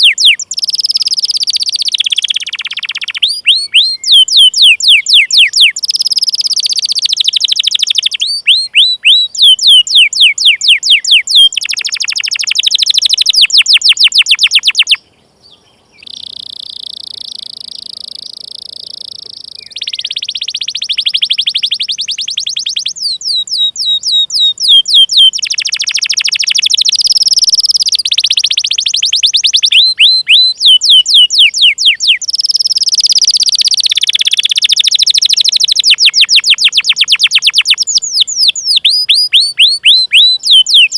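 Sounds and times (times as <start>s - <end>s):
canary singing chirps and trills: 0.0s - 40.9s.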